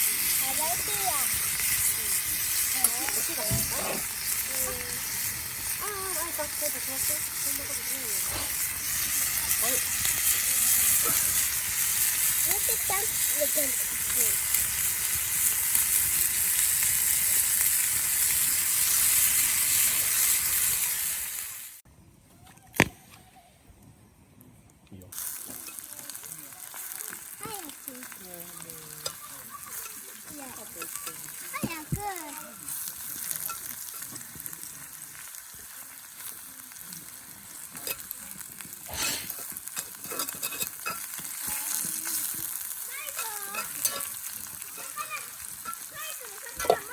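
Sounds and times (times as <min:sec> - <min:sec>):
food sizzling in a skillet: 0:00.0 - 0:21.8, 0:25.1 - 0:46.9.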